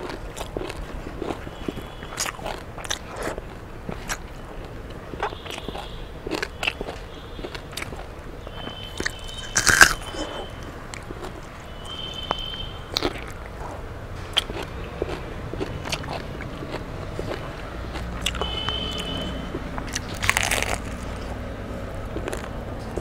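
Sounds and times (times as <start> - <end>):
crunching and chewing: 0.0 - 23.0.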